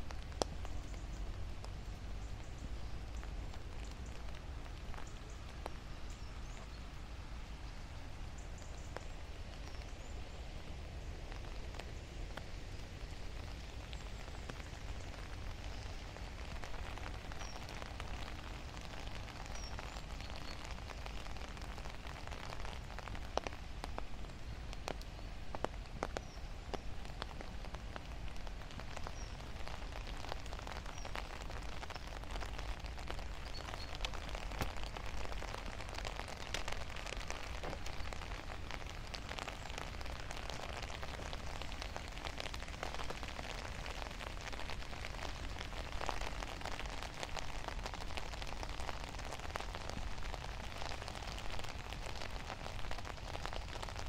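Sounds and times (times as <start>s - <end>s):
raindrops hitting close by: 0.0s - 54.0s
steady rain falling: 0.0s - 54.0s.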